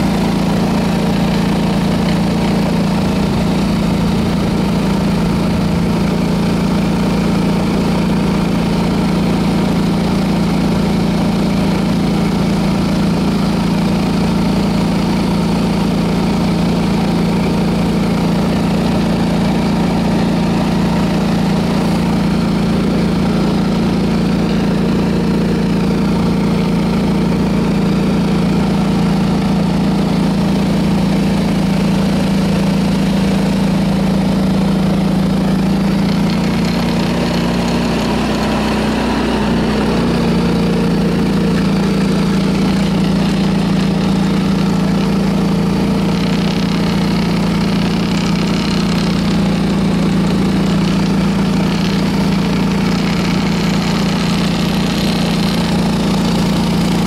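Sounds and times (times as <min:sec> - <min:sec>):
garden tractor engine running: 0:00.0 - 0:57.0
snowblower throwing snow: 0:00.0 - 0:57.0.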